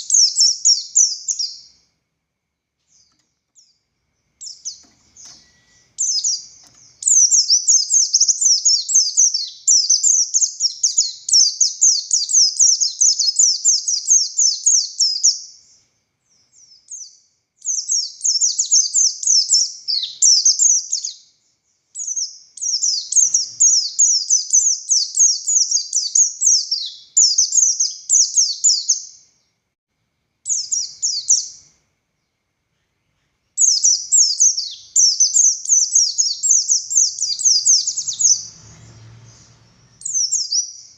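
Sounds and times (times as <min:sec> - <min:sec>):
bird twittering song: 0:00.0 - 0:01.9, 0:02.8 - 0:29.5, 0:30.4 - 0:40.9.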